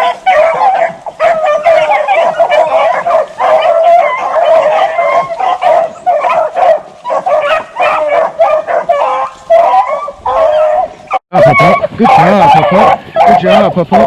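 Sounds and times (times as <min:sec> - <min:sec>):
beagles baying and yelping: 0:00.0 - 0:14.0.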